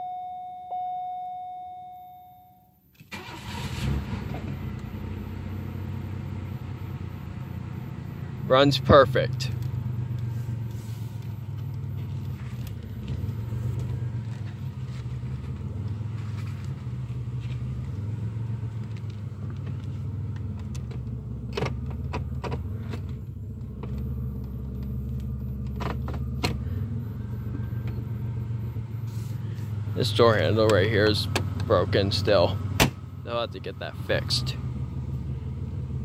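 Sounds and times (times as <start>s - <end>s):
car engine idling: 3.1s - 36.0s.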